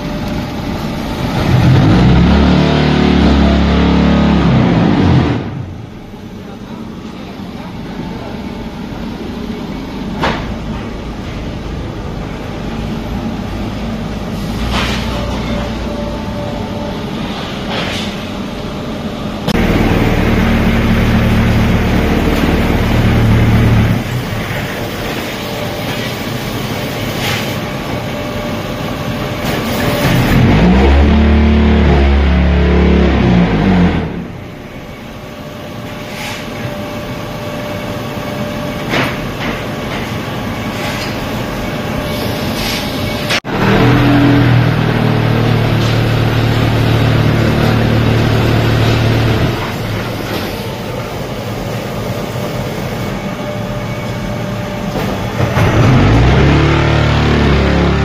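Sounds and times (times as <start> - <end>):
machine humming with knocks: 9.7 - 58.0.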